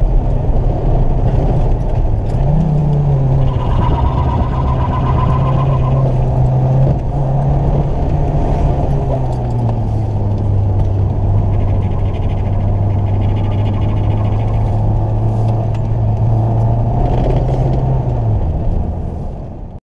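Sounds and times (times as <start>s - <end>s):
car engine from inside cabin: 0.0s - 19.8s
road and wind noise: 0.0s - 19.8s.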